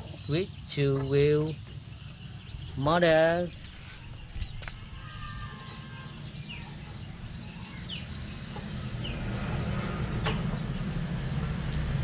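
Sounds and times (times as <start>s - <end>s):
bird chirping: 0.0s - 9.8s.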